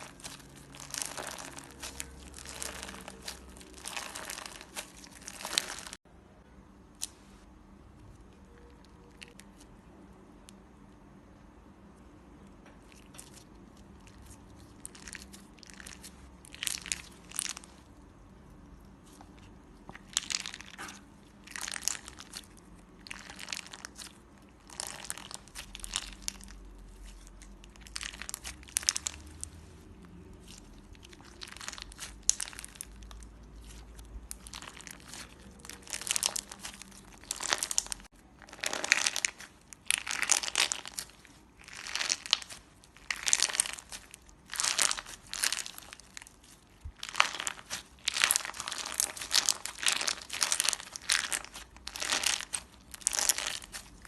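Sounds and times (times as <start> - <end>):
slime crunching and popping: 0.0 - 6.0, 12.7 - 29.6, 30.2 - 54.0.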